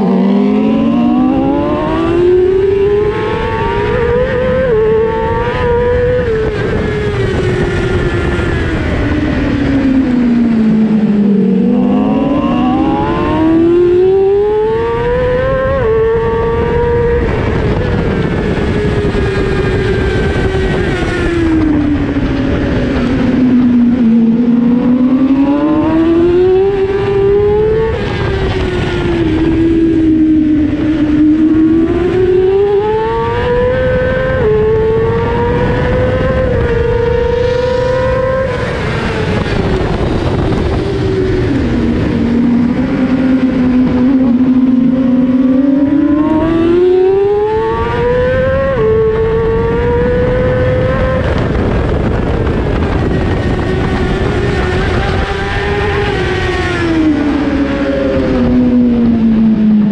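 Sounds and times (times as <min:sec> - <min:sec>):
motorcycle engine at race speed: 0:00.0 - 0:59.9.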